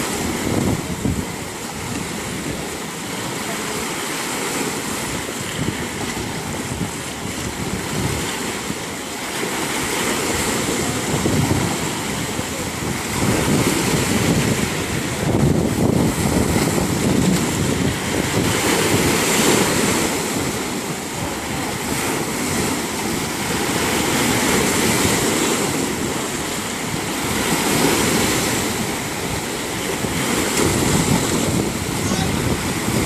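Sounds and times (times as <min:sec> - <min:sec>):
wind buffeting microphone: 0:00.0 - 0:03.8, 0:04.4 - 0:33.0
sea waves washing in: 0:00.0 - 0:33.0.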